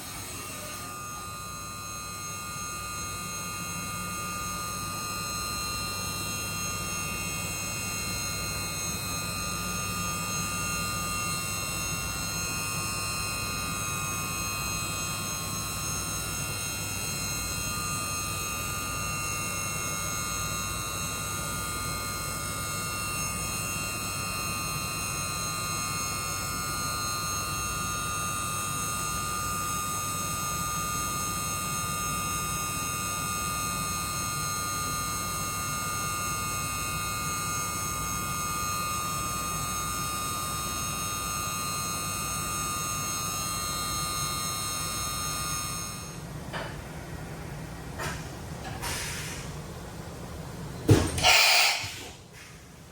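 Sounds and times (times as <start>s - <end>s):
high-pitched machine whines: 0.0s - 46.2s, 50.9s - 52.2s
machine low hum: 0.0s - 48.7s.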